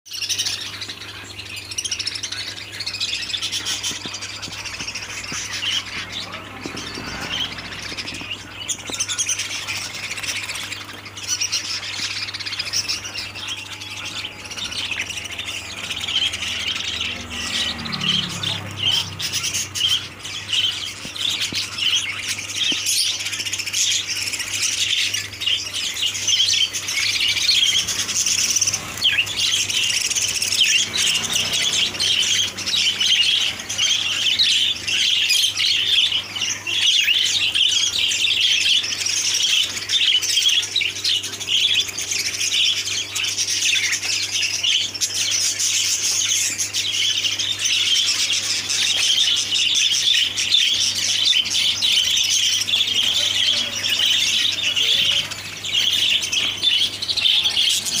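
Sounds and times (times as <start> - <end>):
finches chirping: 0.1 - 58.0.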